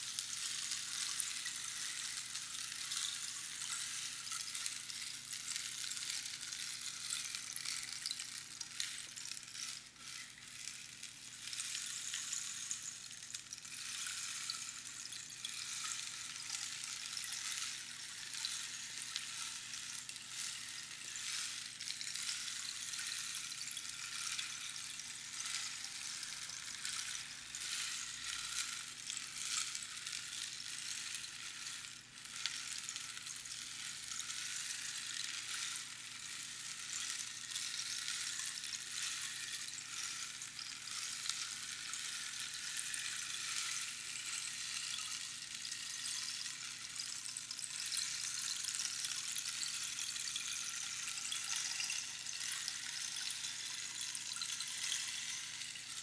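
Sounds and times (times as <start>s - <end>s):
rainstick pebbles trickling: 0.0s - 56.0s.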